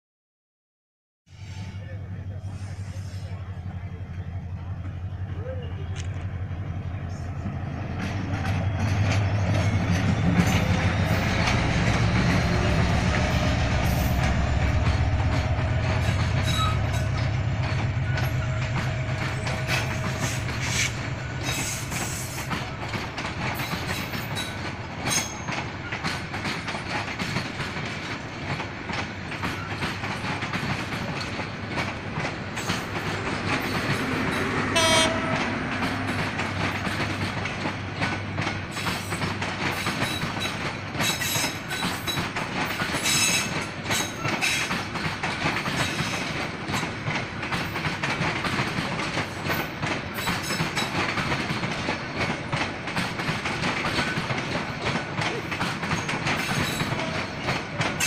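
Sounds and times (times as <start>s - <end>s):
locomotive engine rumble: 1.5s - 58.0s
train wheels clattering over rail joints: 7.1s - 58.0s.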